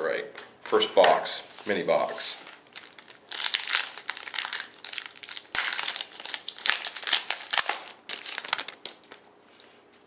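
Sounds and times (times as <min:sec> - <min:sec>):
plastic and foil wrapping crinkling: 0:01.4 - 0:09.7.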